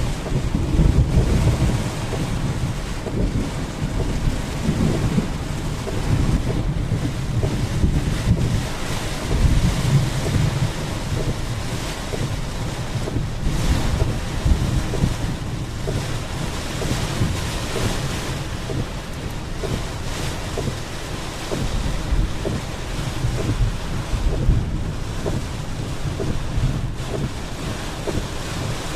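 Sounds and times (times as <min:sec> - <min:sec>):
rain squall: 0:00.0 - 0:28.9
storm wind gusting on microphone: 0:00.0 - 0:28.9.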